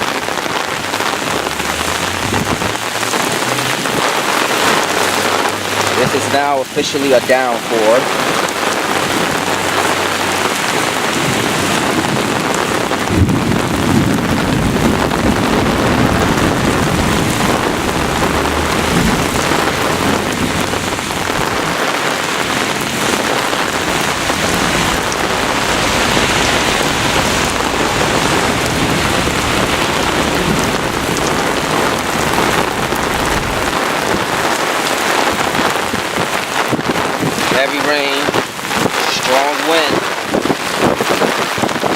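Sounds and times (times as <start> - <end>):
low thunder rumble: 0.0 - 6.3, 8.0 - 37.6
heavy rain pouring: 0.0 - 41.9.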